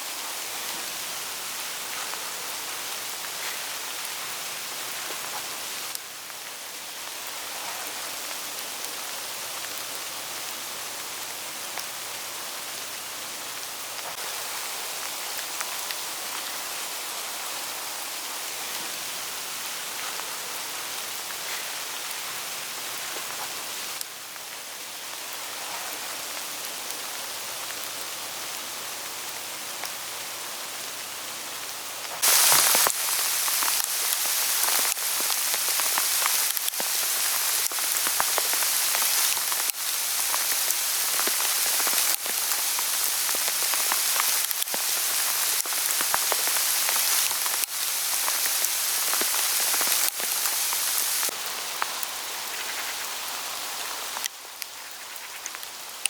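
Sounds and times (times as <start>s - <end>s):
hail pattering on leaves: 0.0s - 30.2s, 32.1s - 56.0s.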